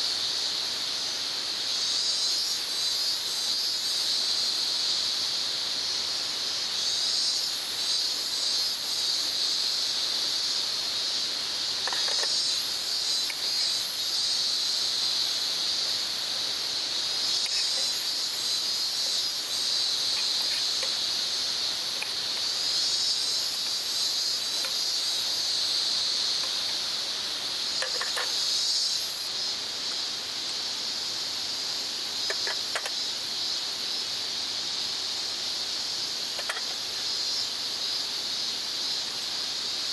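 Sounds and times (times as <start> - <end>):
higher shrill insect layer: 0.0 - 39.9
insects chirring: 0.0 - 39.9.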